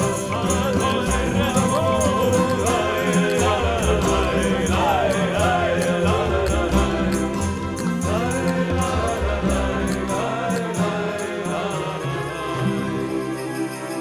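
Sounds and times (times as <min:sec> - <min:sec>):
high percussion beat: 0:00.0 - 0:12.0.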